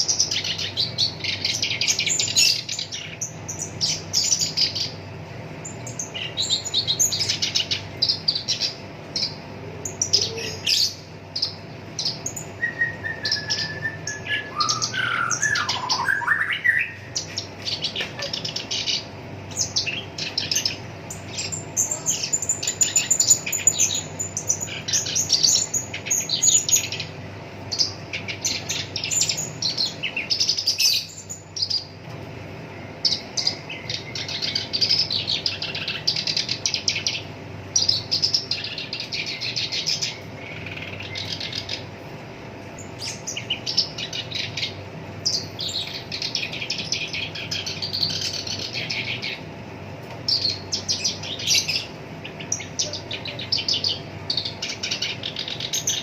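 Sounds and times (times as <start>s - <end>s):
warbler singing chattering song: 0.0s - 56.0s.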